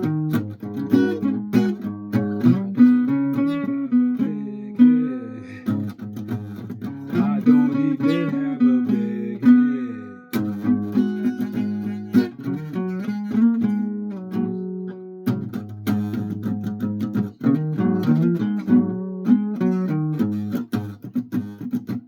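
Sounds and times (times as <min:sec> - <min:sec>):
guitar playing: 0:00.0 - 0:22.0.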